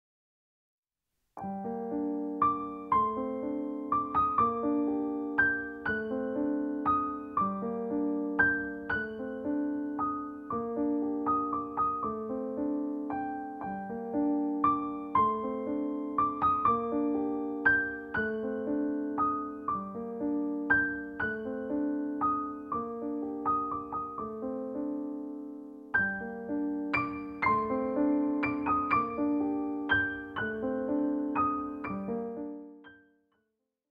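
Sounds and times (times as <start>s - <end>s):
slow piano music: 1.4s - 33.3s.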